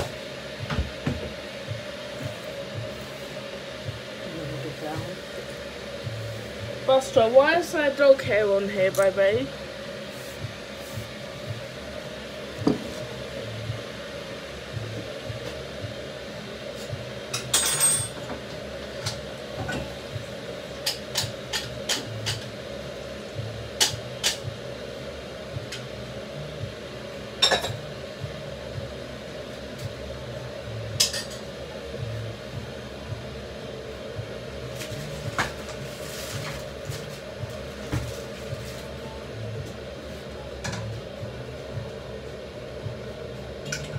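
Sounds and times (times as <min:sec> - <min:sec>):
steady hum: 0:00.0 - 0:43.9.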